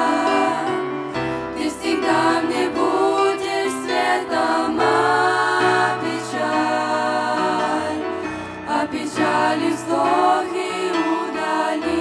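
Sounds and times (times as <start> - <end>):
girls singing together: 0.0 - 0.9, 1.6 - 8.0, 8.7 - 12.0.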